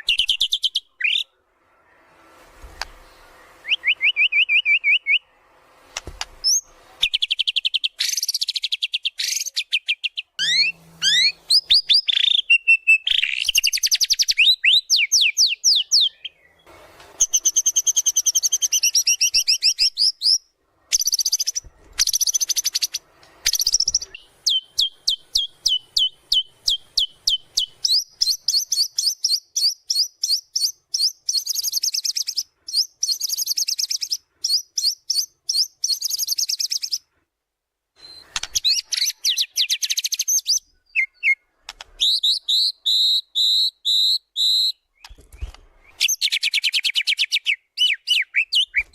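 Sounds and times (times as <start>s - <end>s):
bird singing: 0.0s - 1.4s, 3.0s - 5.4s, 6.4s - 37.0s, 38.0s - 48.9s.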